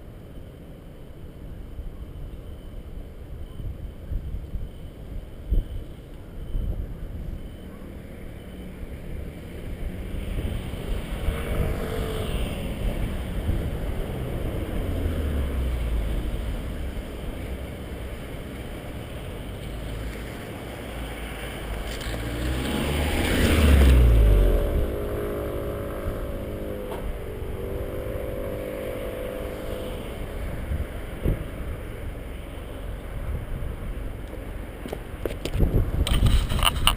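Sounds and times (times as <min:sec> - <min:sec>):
car engine exhaust drone: 0:00.0 - 0:36.9.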